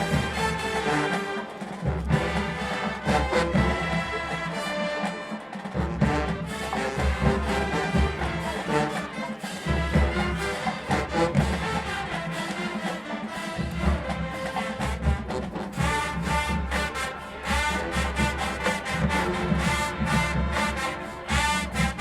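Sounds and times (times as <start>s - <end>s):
brass horns holding chords: 0.0s - 22.0s.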